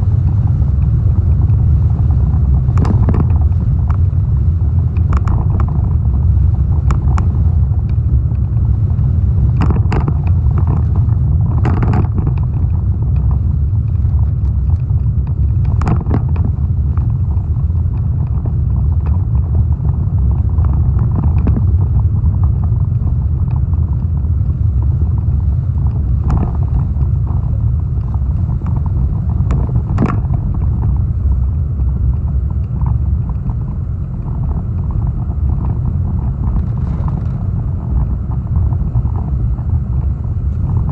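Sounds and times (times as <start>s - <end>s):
strong wind buffeting microphone: 0.0s - 40.9s.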